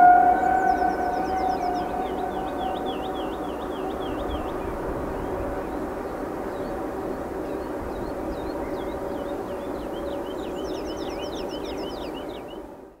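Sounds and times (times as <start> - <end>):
diesel locomotive engine drone: 0.0 - 10.6
small birds singing: 0.0 - 12.7.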